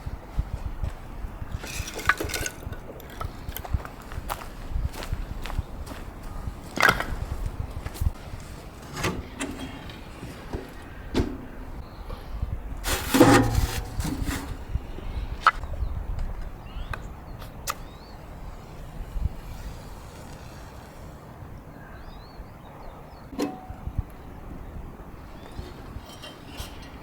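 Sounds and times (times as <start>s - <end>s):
low wind rumble: 0.0s - 27.0s.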